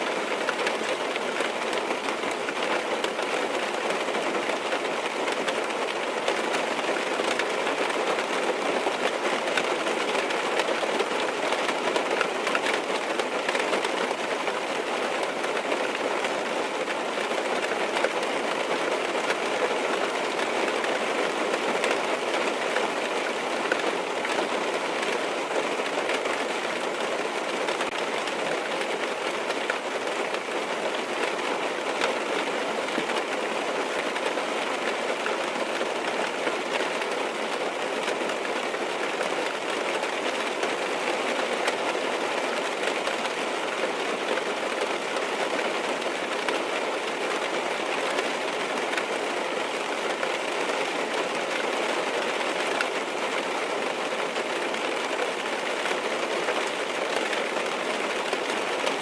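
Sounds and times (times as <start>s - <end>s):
rain on a car roof: 0.0s - 59.0s.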